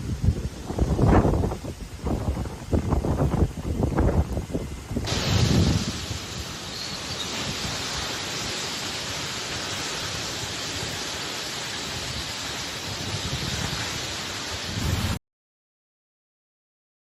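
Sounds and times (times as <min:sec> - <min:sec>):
torrential rain pouring: 0:00.0 - 0:15.2.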